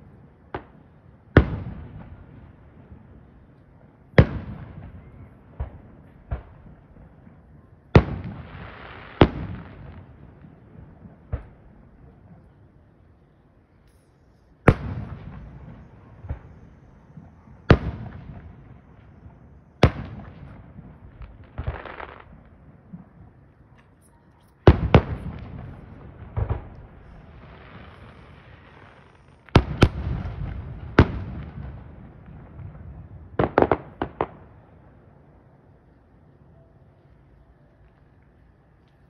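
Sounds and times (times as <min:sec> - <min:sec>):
fireworks bangs: 0:00.0 - 0:12.8, 0:13.9 - 0:35.0.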